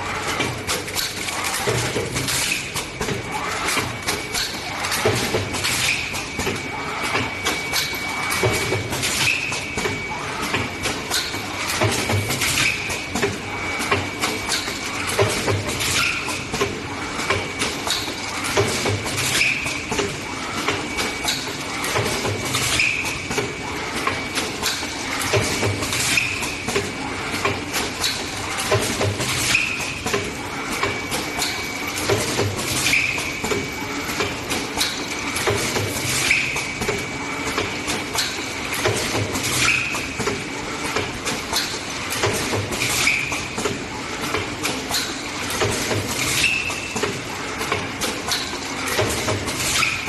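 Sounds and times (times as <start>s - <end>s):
packing machine clatter: 0.0s - 50.0s.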